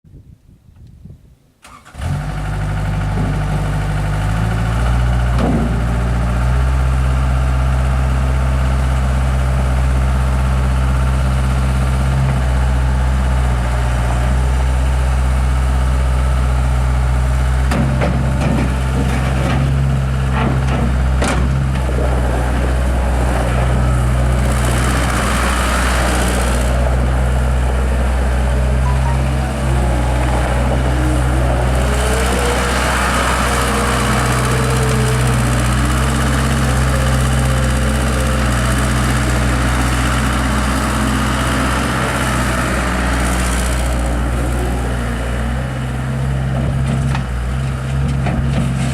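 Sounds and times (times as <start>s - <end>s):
loader engine idling: 1.6s - 48.9s.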